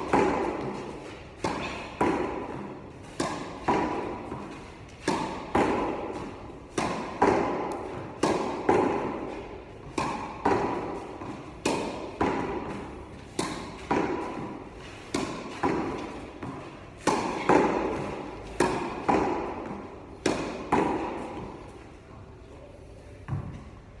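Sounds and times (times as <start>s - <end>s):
tennis ball hitting wall: 0.0s - 21.7s
tennis ball hit with racket: 0.0s - 21.8s, 23.3s - 23.7s.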